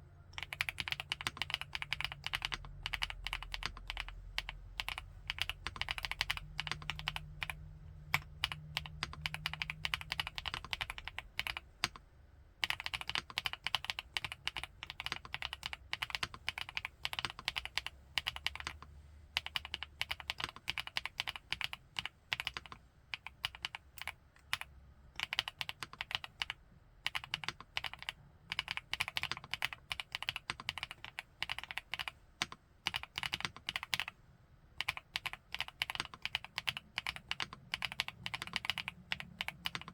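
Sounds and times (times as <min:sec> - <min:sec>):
typing on mechanical keyboard: 0:00.3 - 0:12.0, 0:12.6 - 0:34.2, 0:34.8 - 0:39.9.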